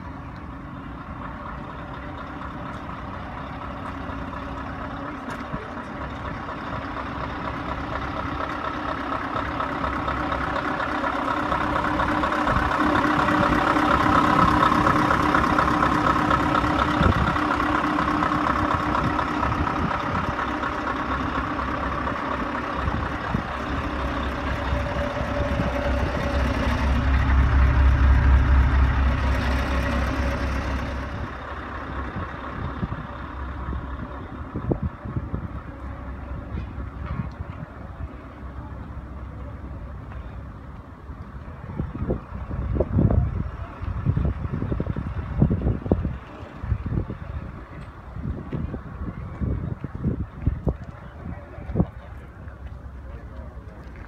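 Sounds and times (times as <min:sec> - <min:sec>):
heavy truck engines: 0:00.0 - 0:54.0.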